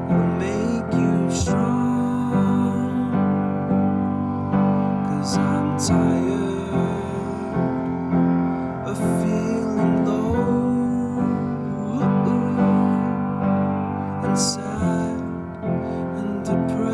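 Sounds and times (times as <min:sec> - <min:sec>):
piano song: 0:00.0 - 0:16.9.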